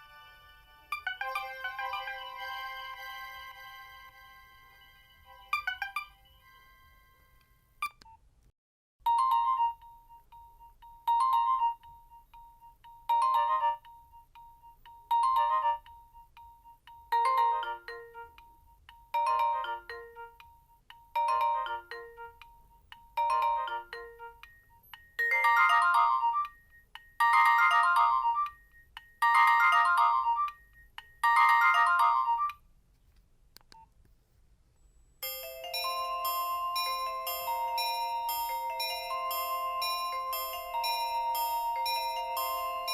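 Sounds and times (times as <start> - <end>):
mobile phone ringtone: 0.0 - 8.0, 9.1 - 32.6, 35.2 - 42.9.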